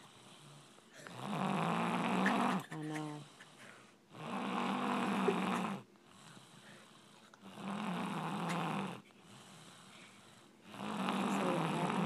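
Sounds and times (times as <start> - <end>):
person snoring: 0.0 - 12.0
quiet breathing: 0.0 - 12.0.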